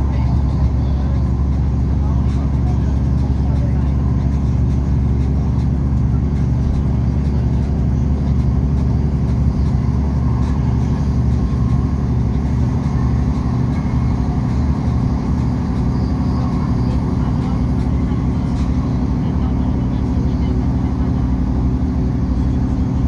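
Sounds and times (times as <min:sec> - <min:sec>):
train rumbling inside carriage: 0:00.0 - 0:23.0.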